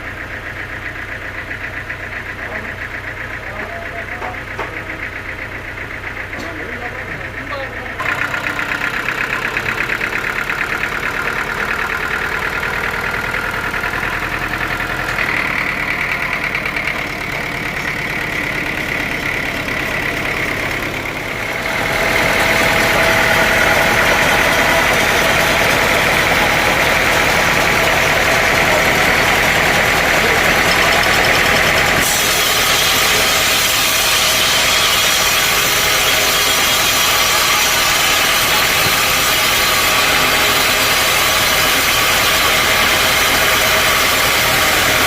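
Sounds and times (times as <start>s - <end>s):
sawmill machinery whining: 0.0s - 45.0s.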